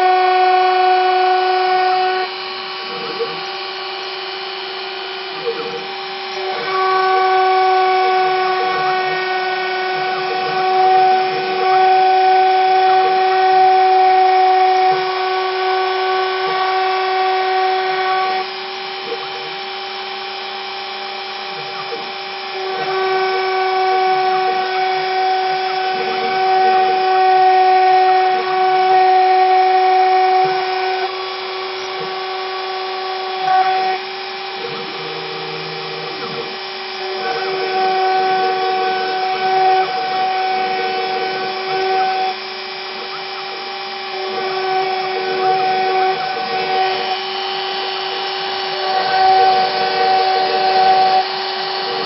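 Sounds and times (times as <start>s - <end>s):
milling spindle motor whining: 0.0s - 52.0s.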